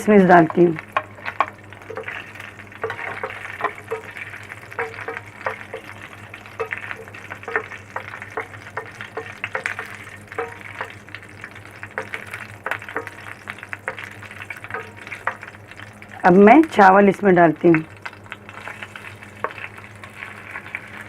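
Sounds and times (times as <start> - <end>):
nuts sizzling in a pan: 0.0 - 21.0
spoon scraping a pan: 0.5 - 16.2, 18.5 - 21.0.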